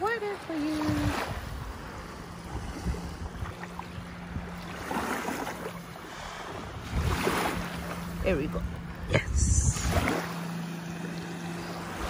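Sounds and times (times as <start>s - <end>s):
waves lapping on sandy beach: 0.0s - 12.0s.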